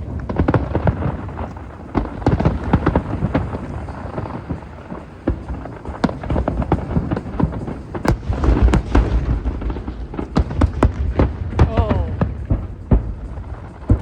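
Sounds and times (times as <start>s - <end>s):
fireworks bangs and crackles: 0.0s - 14.0s
low rumble of booming shells: 0.0s - 14.0s.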